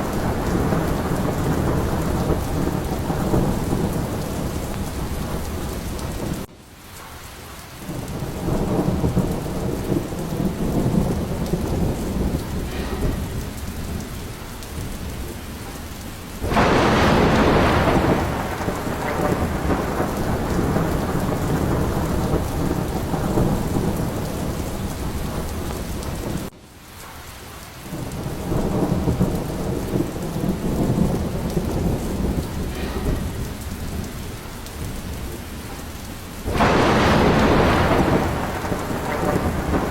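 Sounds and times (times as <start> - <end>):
rolling thunder: 0.0 - 6.5, 7.8 - 26.5, 27.8 - 39.9
heavy rain: 0.0 - 39.9.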